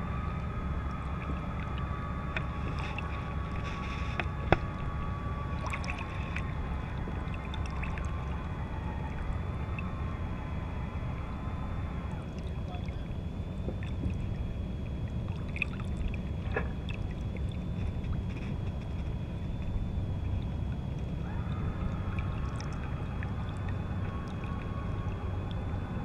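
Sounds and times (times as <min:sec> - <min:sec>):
faint tones: 0:00.0 - 0:26.0
water lapping against boat hull: 0:00.0 - 0:26.0.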